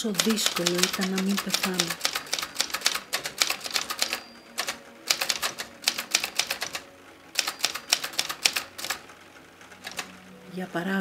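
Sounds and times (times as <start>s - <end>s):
typewriter keys clacking: 0.0s - 9.0s, 9.8s - 10.2s.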